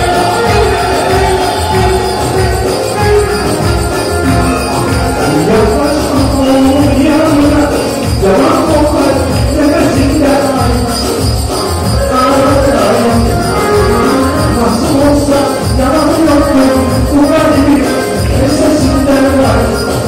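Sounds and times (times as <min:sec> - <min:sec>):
man singing into a microphone: 0:00.0 - 0:20.0
upbeat dance music: 0:00.0 - 0:20.0.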